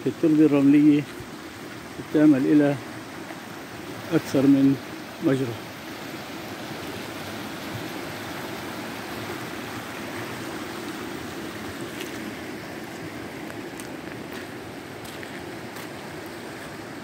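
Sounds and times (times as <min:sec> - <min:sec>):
water rushing over gravel: 0:00.0 - 0:17.0.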